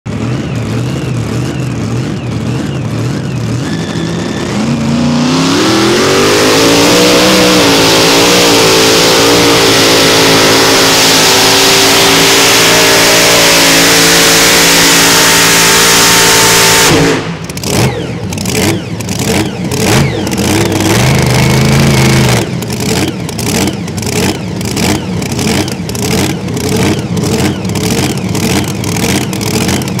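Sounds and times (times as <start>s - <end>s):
tractor engine revving and idling: 0.0s - 30.0s.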